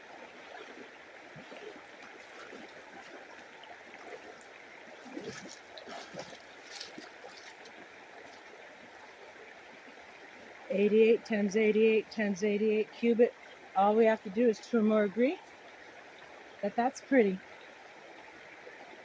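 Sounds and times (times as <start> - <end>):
creek water trickling over stones: 0.0 - 19.0.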